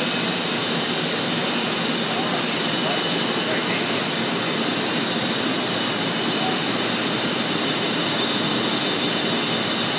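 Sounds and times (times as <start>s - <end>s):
high spindle whine: 0.0s - 9.9s.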